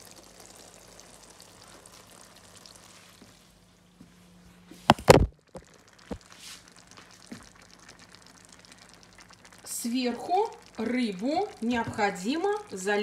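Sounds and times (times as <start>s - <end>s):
marinade sizzling in a pan: 0.0s - 4.0s, 4.8s - 13.0s.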